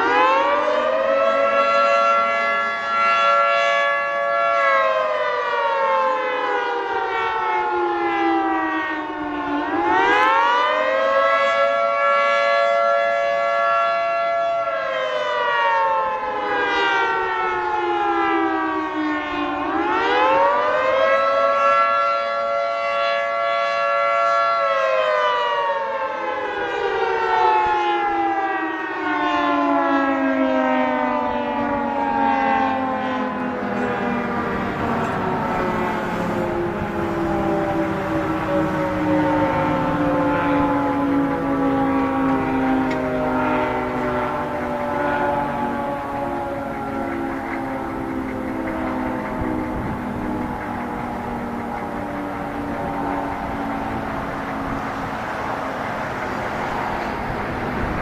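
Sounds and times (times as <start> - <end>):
fainter lower-pitched siren: 0.0 - 58.0
two-tone siren slow wail: 0.0 - 58.0.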